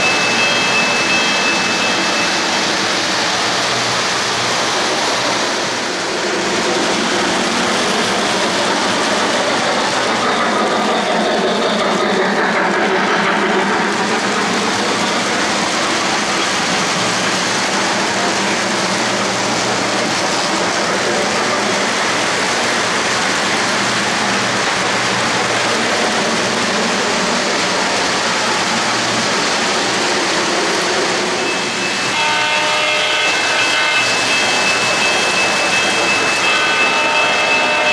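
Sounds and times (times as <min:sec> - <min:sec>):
model train cars rolling on track: 0:00.0 - 0:37.9.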